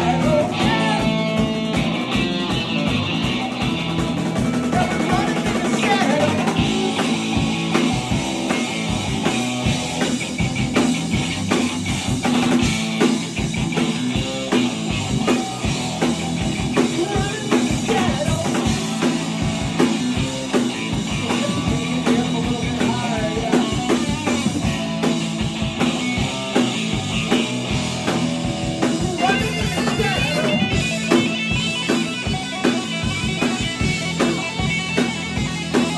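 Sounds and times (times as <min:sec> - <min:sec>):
drum kit steady beat: 0:00.0 - 0:35.9
electric guitar: 0:00.0 - 0:35.9.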